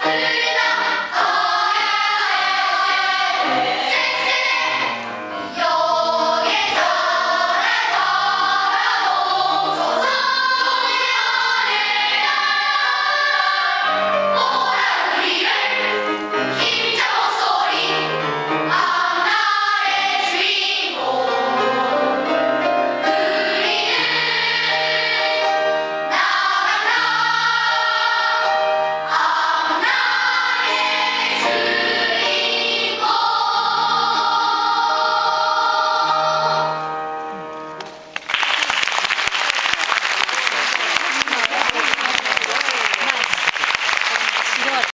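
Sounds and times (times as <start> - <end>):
children's choir singing: 0.0 - 37.3.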